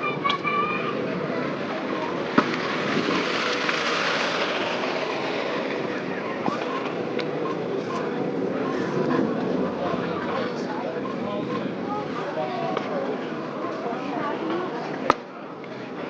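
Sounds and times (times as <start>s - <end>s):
crowd murmur: 0.0s - 16.0s.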